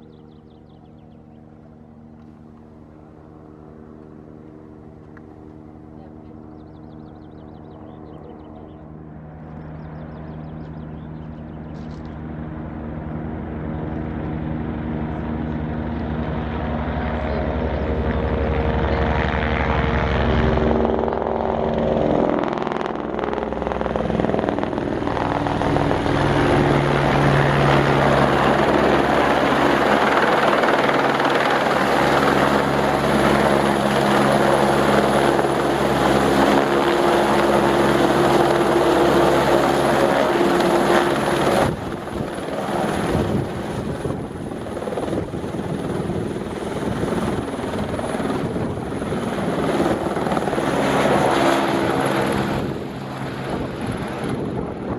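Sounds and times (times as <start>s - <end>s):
helicopter rotor and turbine: 0.0s - 54.9s.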